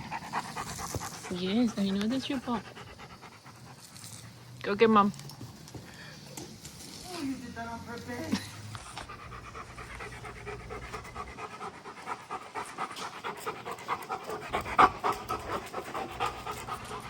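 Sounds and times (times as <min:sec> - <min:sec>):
dog panting: 0:00.0 - 0:05.7, 0:08.7 - 0:17.0.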